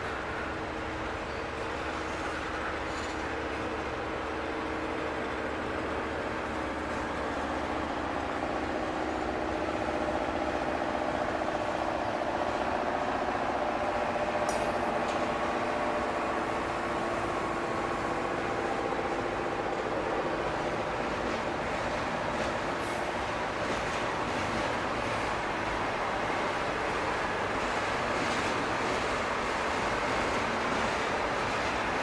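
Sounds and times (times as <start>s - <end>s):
steel wheels on rail: 0.0s - 32.0s.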